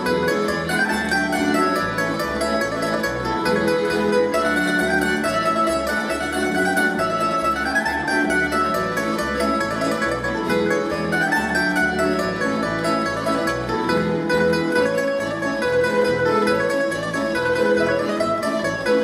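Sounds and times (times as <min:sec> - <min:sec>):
bass line: 0:00.0 - 0:19.0
plucked strings: 0:00.0 - 0:19.0.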